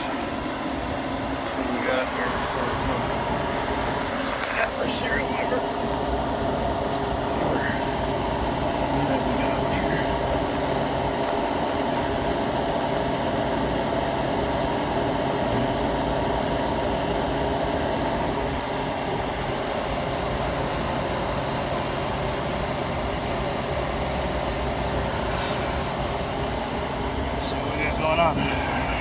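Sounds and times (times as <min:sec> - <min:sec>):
refrigeration equipment humming: 0:00.0 - 0:29.0.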